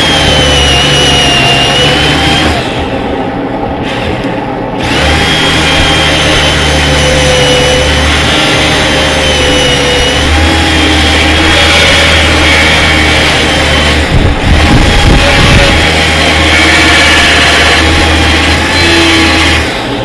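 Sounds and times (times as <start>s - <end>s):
power tool motor whine: 0.0s - 20.0s.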